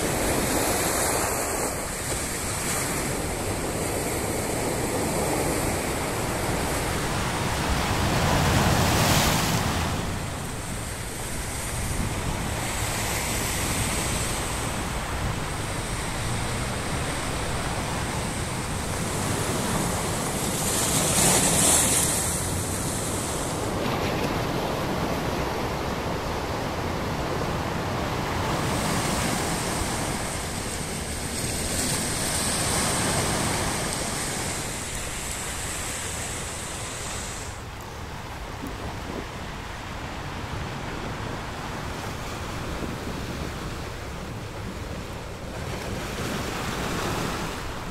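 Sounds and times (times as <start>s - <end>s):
sea surf breaking on shore: 0.0s - 47.9s.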